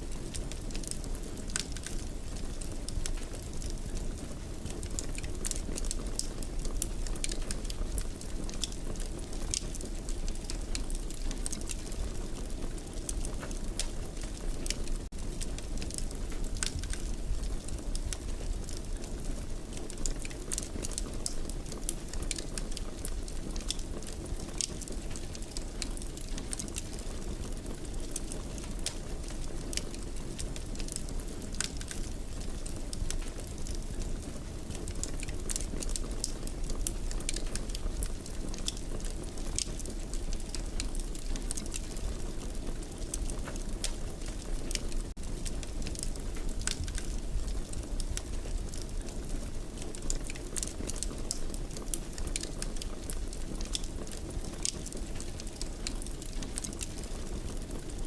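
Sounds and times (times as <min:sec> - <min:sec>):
fire crackles and pops: 0:00.0 - 0:58.0
wood fire burning: 0:00.0 - 0:58.0.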